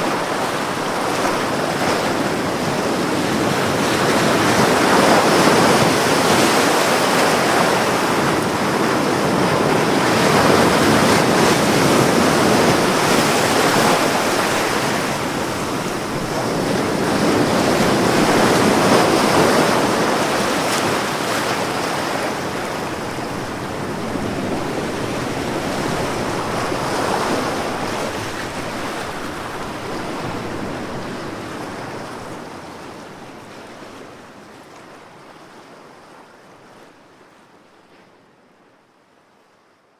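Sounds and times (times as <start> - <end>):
ocean waves on beach: 0.0 - 38.6.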